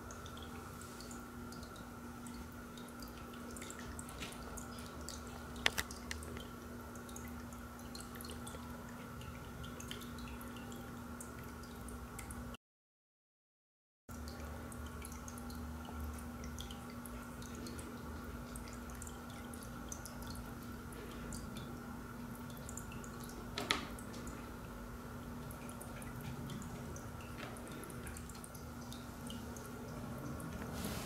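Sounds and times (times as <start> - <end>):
pump humming: 0.0 - 12.6, 14.1 - 31.0
water trickling and dripping: 0.0 - 12.6, 14.1 - 31.0.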